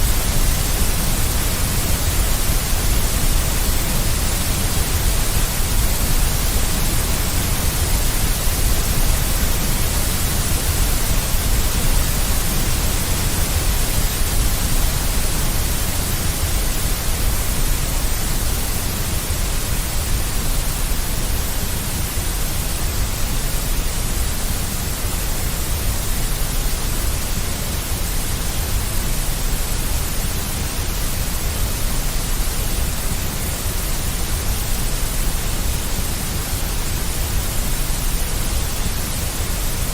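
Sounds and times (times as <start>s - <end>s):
white noise with deep bass: 0.0s - 39.9s.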